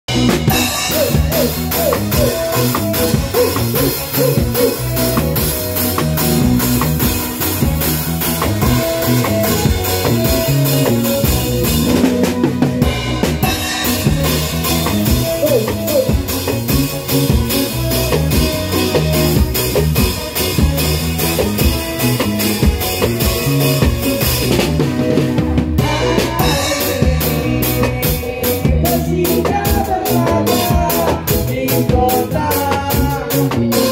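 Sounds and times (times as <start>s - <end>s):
drum kit: 0.0s - 33.9s
ska band playing live: 0.0s - 33.9s.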